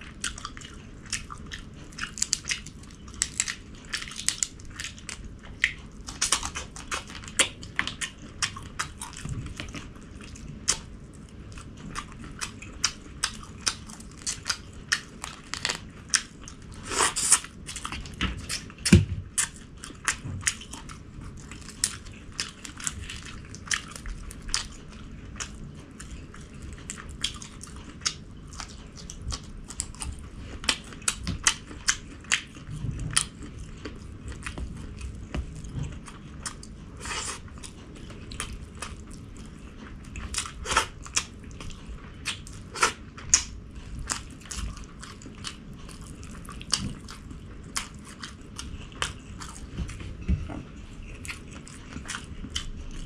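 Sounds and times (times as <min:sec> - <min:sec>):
person biting and chewing food: 0:00.1 - 0:53.0.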